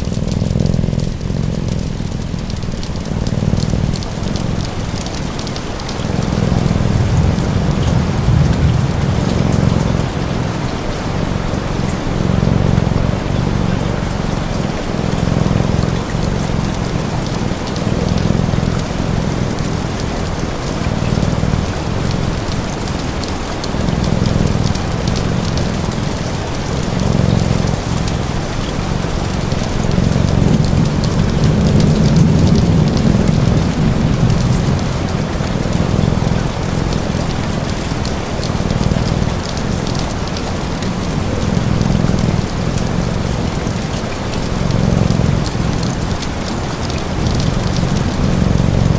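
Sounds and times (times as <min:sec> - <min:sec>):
cat purring: 0:00.0 - 0:48.9
rain pattering: 0:00.0 - 0:48.9
wood fire crackling: 0:00.0 - 0:48.9.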